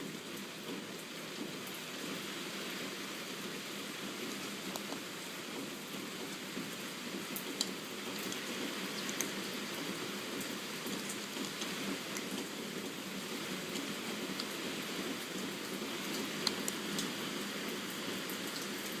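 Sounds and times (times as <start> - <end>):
steady rain falling: 0.0 - 19.0
ticks of raindrops: 0.0 - 19.0.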